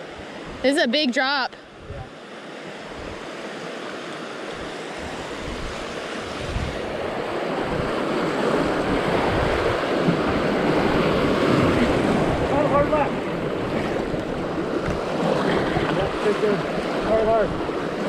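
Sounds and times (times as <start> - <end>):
rushing whitewater: 0.0 - 18.0.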